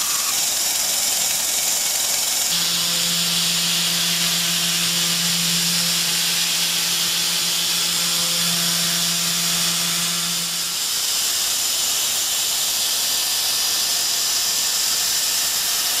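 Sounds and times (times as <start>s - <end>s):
milling machine hum: 0.0s - 16.0s.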